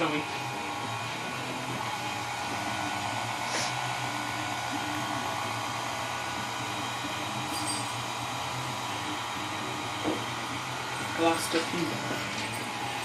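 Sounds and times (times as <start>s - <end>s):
pasta machine motor humming: 0.0s - 13.0s.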